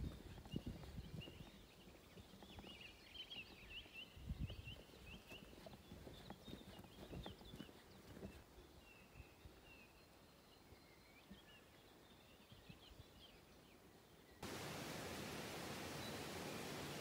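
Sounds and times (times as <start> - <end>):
small birds chirping: 0.0 - 14.4, 15.8 - 17.0.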